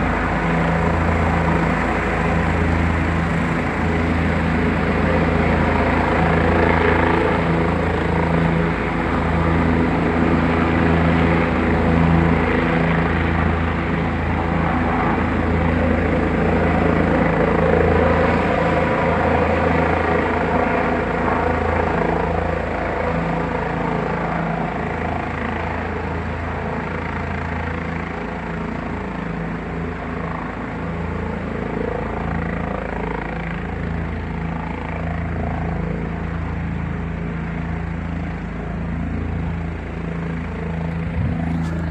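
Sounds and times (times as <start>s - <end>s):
helicopter drone: 0.0s - 41.9s.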